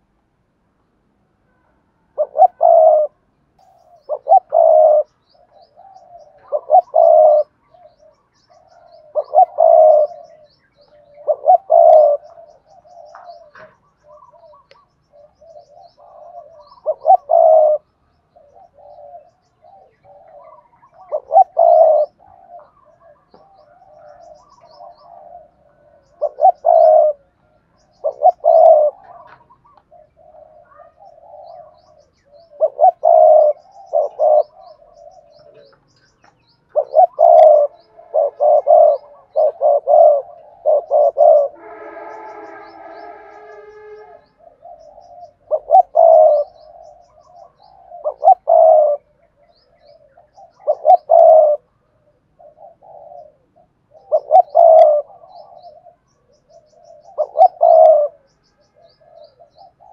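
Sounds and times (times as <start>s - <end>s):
dove cooing: 1.5s - 59.9s.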